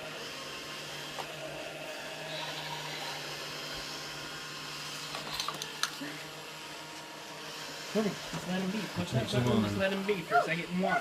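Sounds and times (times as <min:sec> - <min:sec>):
robot vacuum motor hum: 0:00.0 - 0:11.0.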